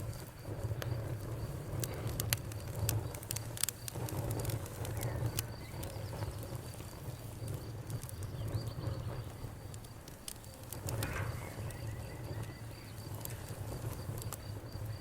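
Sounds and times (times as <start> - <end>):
campfire crackling: 0.0 - 15.0
insect trilling: 0.1 - 15.0.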